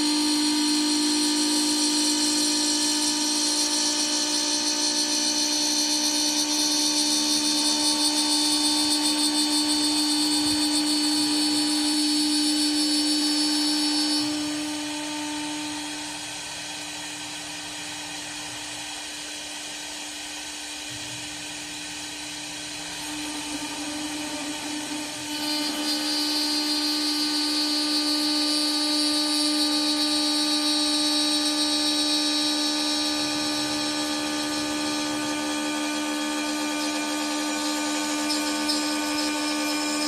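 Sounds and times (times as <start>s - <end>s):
wood lathe motor whine: 0.0s - 40.0s.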